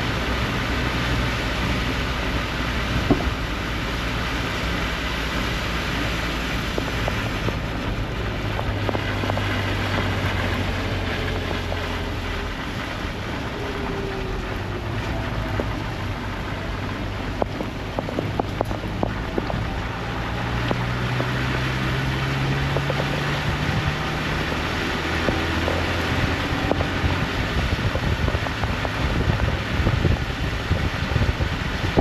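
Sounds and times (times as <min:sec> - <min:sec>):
vehicle engine running: 0:00.0 - 0:32.0
wind and rain hiss: 0:00.0 - 0:32.0.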